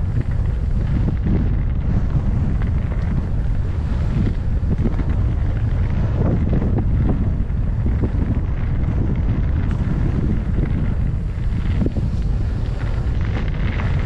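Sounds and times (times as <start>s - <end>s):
bike ticks and rattles: 0.0s - 14.0s
wind rumbling on microphone: 0.0s - 14.0s.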